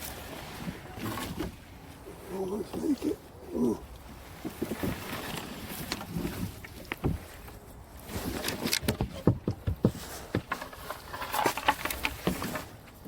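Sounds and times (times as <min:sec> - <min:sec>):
kayak scraping through branches: 0:00.0 - 0:09.0, 0:09.8 - 0:13.0.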